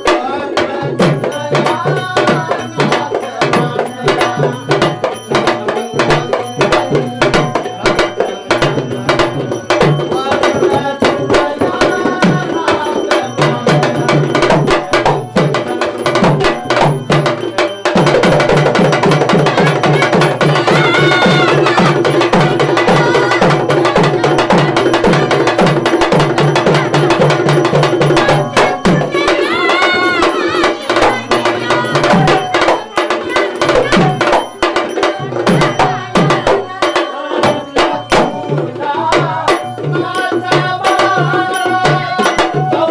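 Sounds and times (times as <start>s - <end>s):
hand drum fast rhythm: 0.0s - 42.9s.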